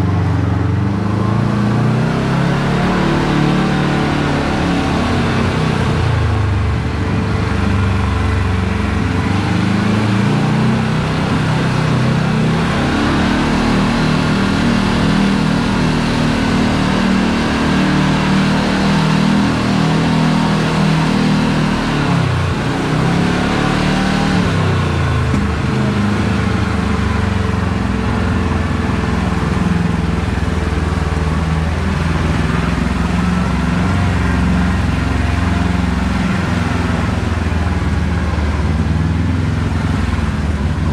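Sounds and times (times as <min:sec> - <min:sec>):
utility vehicle engine running: 0:00.0 - 0:40.9.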